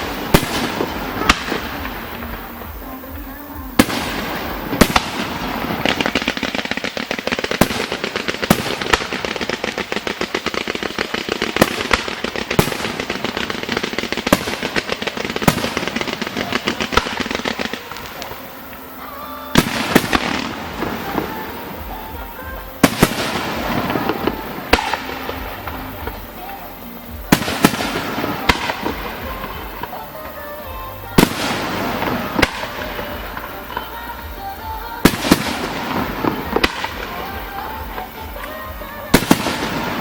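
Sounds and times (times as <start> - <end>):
dense firework crackling: 0.0 - 40.0
firework shells bursting with bangs: 0.0 - 40.0.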